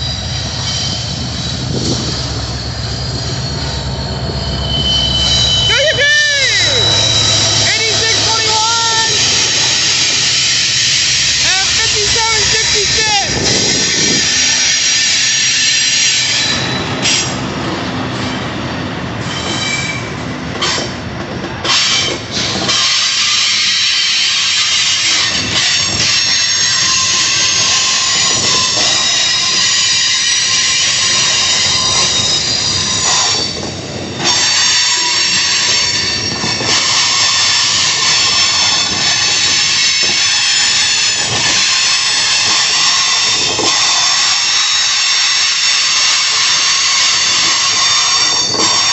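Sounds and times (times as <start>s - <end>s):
low rumble of train: 0.0s - 48.9s
train wheels squealing on rails: 0.0s - 48.9s.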